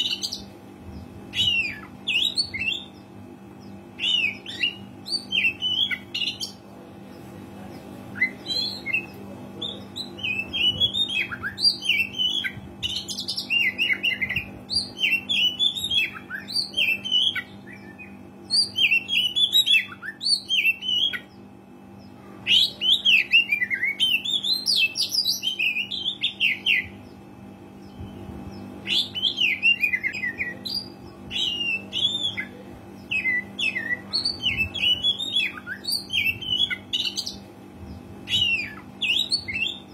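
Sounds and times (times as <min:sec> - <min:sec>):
songbird singing whistled notes: 0:01.3 - 0:06.6, 0:08.1 - 0:21.4, 0:22.5 - 0:27.2, 0:27.8 - 0:39.9.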